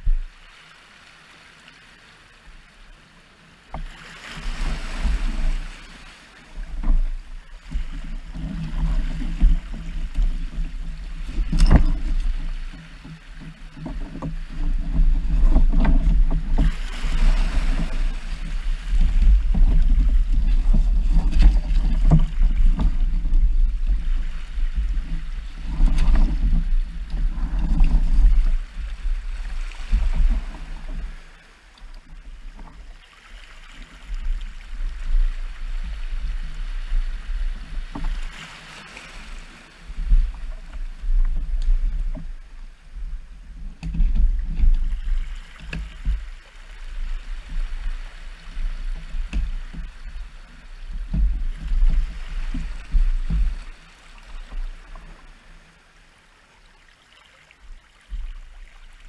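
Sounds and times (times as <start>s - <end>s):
soft rushes of water: 0.0s - 59.0s
water lapping and splashing: 0.0s - 59.0s.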